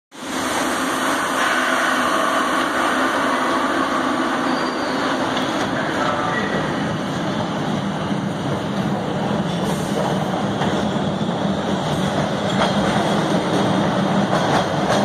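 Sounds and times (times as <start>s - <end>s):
subway car equipment hum and hiss: 0.2s - 15.0s.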